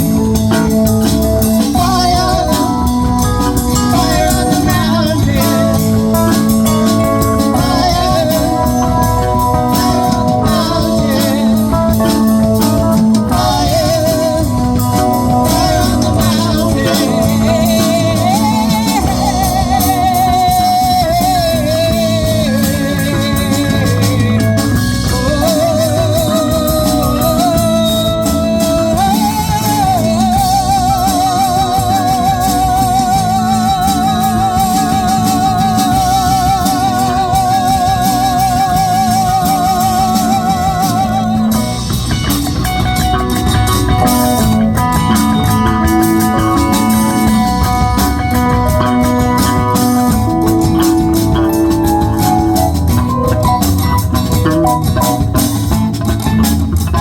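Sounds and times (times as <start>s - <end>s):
lead melody with vibrato: 0.0s - 57.0s
live rock band playing: 0.0s - 57.0s.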